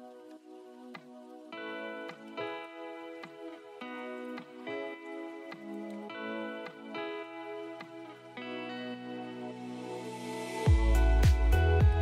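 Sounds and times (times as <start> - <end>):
instrumental music with plucked notes: 1.0 - 10.1, 10.7 - 12.0.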